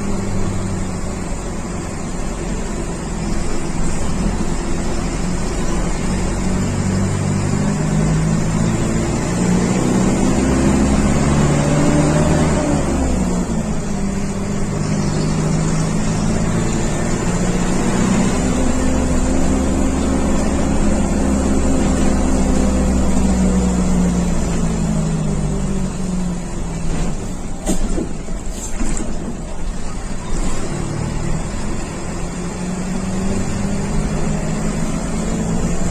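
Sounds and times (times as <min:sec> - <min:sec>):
bus diesel engine accelerating: 0:00.0 - 0:35.9.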